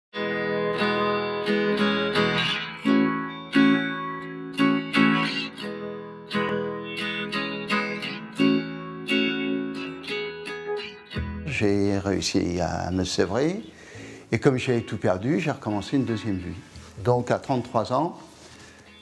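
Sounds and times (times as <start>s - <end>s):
acoustic guitar chords: 0.2s - 17.0s.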